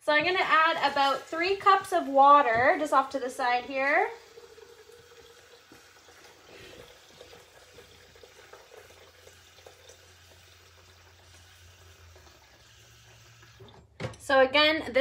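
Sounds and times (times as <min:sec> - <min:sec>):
faint running water: 0:00.0 - 0:14.0.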